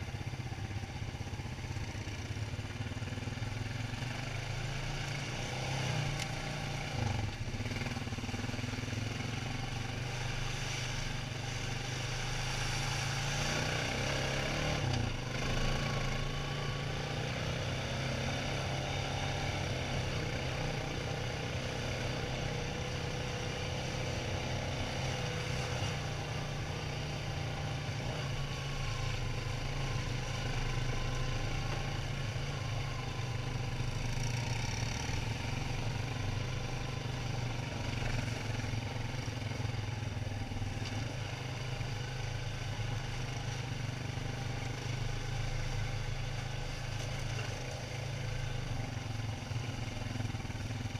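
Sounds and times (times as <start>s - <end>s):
quad bike engine running: 0.0s - 50.9s.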